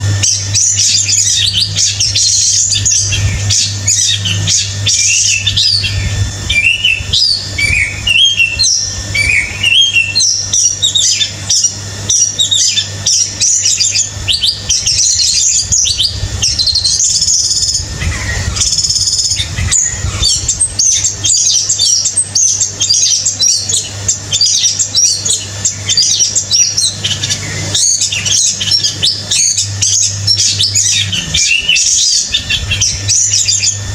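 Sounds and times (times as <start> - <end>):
low hum: 0.0 - 33.9
songbird singing: 0.0 - 33.9.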